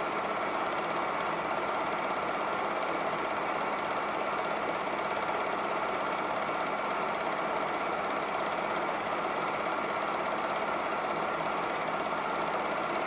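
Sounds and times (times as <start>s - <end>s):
film projector clattering: 0.0s - 13.0s.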